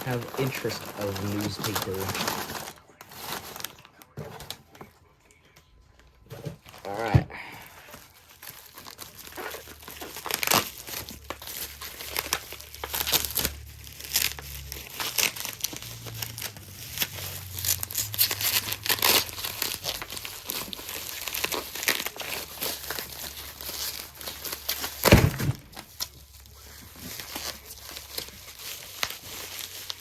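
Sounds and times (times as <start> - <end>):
paper tearing: 0.0 - 3.9, 8.3 - 30.0
paper crinkling: 0.0 - 30.0.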